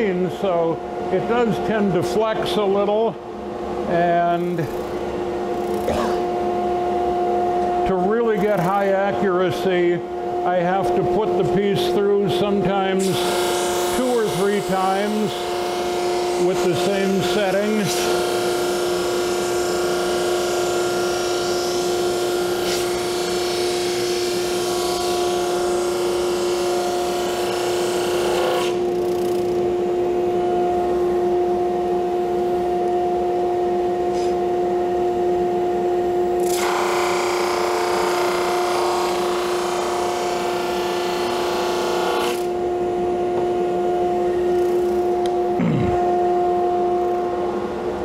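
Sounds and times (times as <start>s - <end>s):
drum sander hum: 0.0s - 48.0s.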